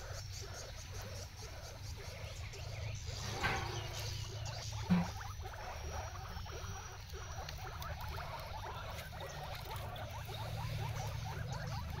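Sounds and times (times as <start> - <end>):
guinea pig chewing leaves: 0.0 - 3.2, 3.9 - 12.0.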